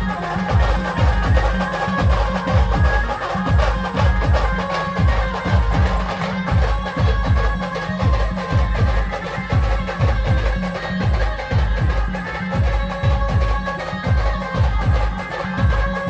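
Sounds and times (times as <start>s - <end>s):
deep bass drum beats: 0.0s - 16.0s.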